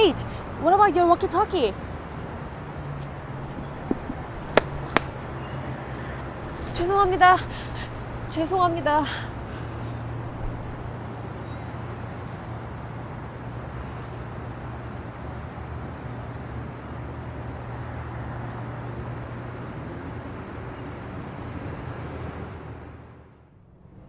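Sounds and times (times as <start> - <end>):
city traffic hum: 0.0 - 24.0.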